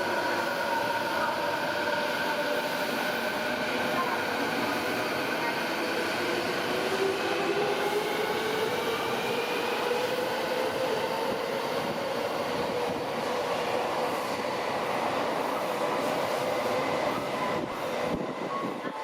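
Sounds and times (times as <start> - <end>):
subway train rail noise: 0.0 - 19.0.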